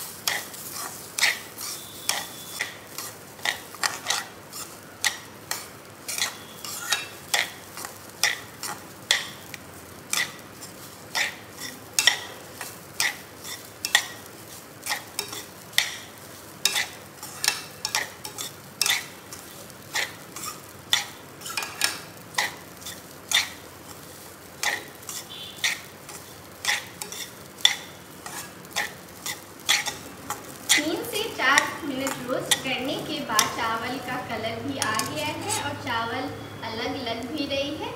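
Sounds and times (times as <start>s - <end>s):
metal spoon scraping rice in pan: 0.0s - 33.6s, 34.8s - 35.8s.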